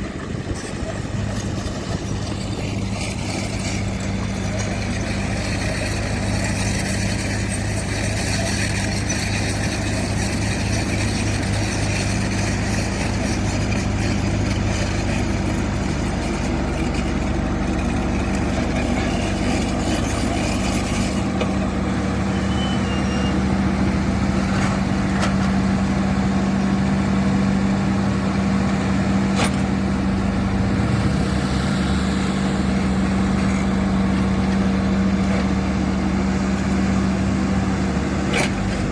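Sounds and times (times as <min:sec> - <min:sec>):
heavy construction machinery running: 0:00.0 - 0:38.9.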